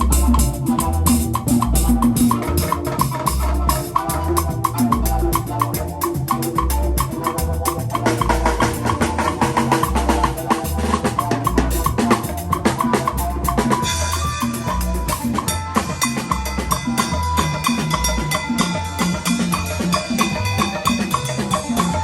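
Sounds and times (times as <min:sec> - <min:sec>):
bass line: 0:00.0 - 0:22.0
drum kit: 0:00.0 - 0:22.0
percussion: 0:00.0 - 0:22.0.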